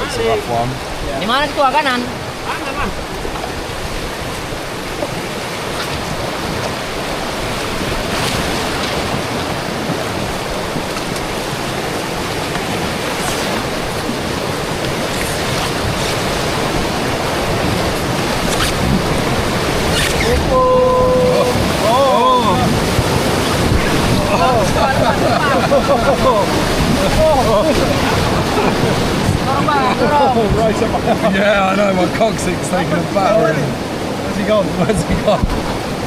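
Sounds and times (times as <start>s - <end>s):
river water rushing through rapids: 0.0s - 36.0s.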